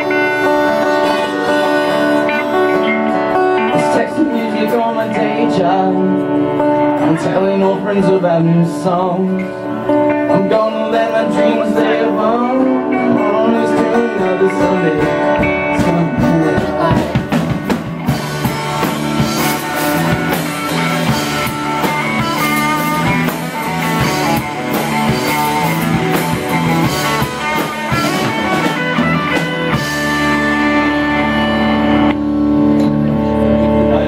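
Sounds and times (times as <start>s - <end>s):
held guitar chord ringing: 0.0s - 7.9s, 8.8s - 34.0s
rock band playing: 0.0s - 34.0s.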